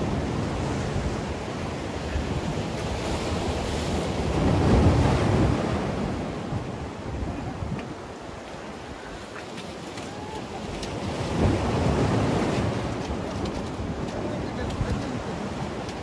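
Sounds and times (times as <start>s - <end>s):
sea waves breaking on concrete: 0.0s - 7.0s, 7.6s - 16.0s
wind buffeting microphone: 0.0s - 16.0s.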